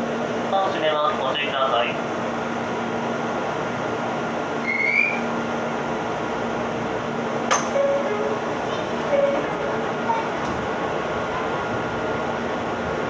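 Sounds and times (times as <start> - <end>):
electric train interior noise: 0.0 - 13.0.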